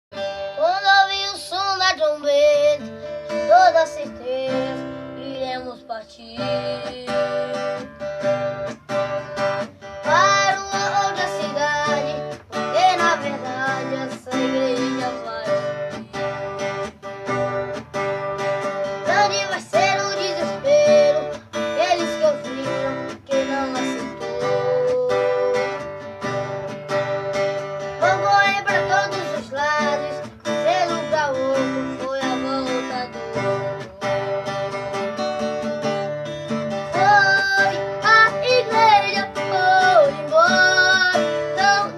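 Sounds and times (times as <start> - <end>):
acoustic guitar strumming: 0.1 - 41.9
person singing: 0.3 - 17.9, 18.6 - 41.9.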